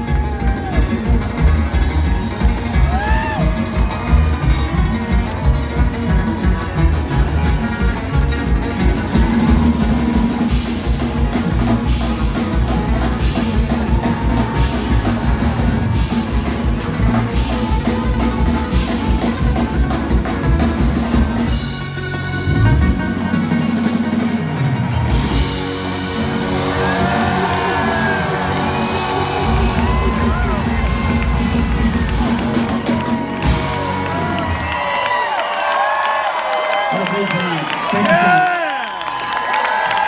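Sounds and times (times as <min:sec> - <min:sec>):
fiddle: 0:00.0 - 0:34.6
drum kit beat: 0:00.0 - 0:35.0.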